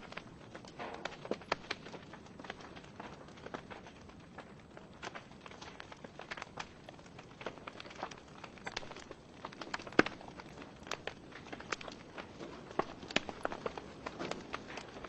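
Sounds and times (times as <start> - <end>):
logs crackling and popping: 0.0 - 15.0.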